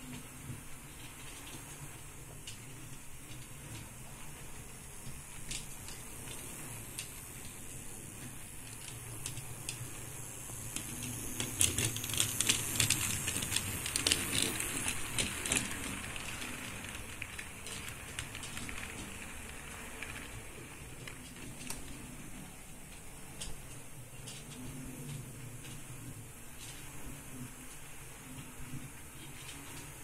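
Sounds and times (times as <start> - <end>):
model train motor hum: 0.0 - 30.0
wheels clicking over rail joints: 0.0 - 30.0.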